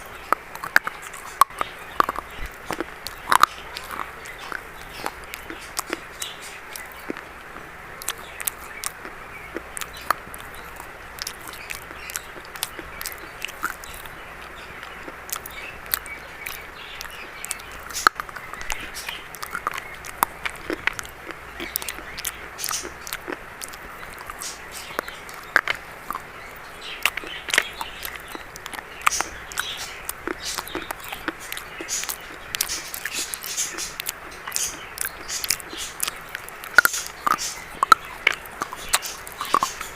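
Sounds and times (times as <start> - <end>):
biscuit crunching: 0.0 - 39.9
soft chewing: 0.0 - 39.9.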